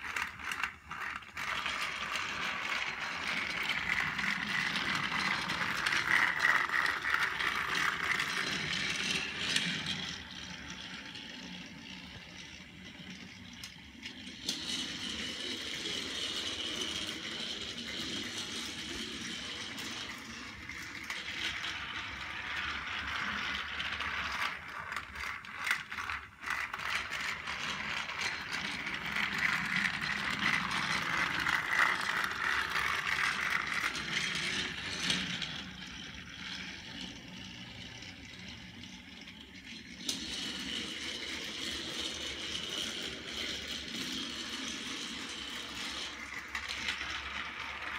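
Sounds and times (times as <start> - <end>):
toy train motor whirring: 0.0 - 47.9
toy train wheels rattling on track: 0.0 - 47.9.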